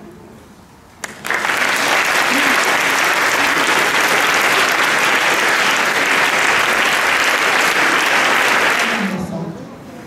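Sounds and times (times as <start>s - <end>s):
large audience applauding: 1.0s - 9.2s.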